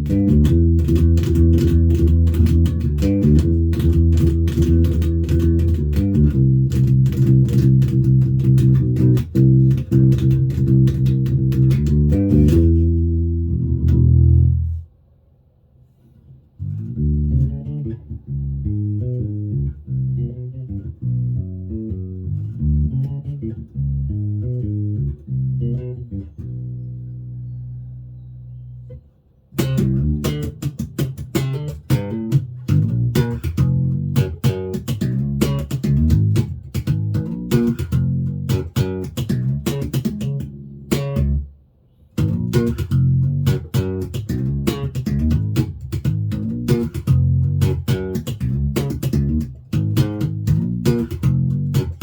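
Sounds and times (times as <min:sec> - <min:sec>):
electric bass plucked notes: 0:00.0 - 0:14.9, 0:16.6 - 0:52.0.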